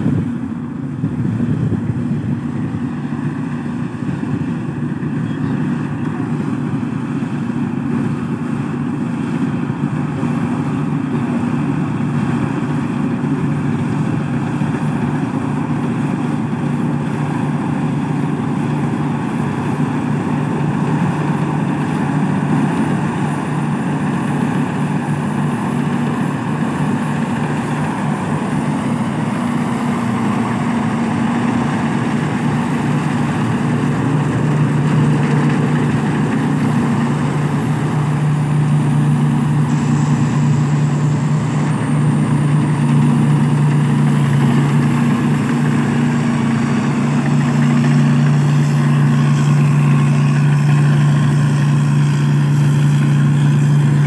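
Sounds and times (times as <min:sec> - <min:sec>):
combine harvester engine drone: 0:00.0 - 0:54.0
threshing machinery whir: 0:00.0 - 0:54.0.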